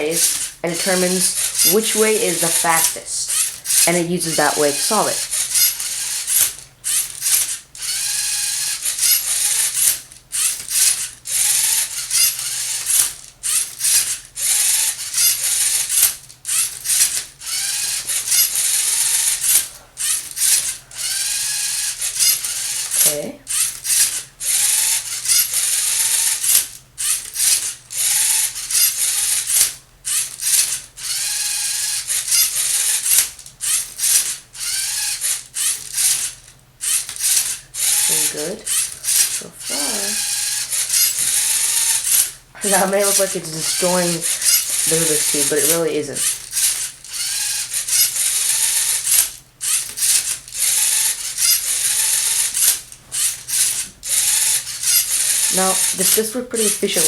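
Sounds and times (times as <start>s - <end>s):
geared motors whirring: 0.0s - 57.0s
puzzle cube grinding and clicking: 0.0s - 57.0s.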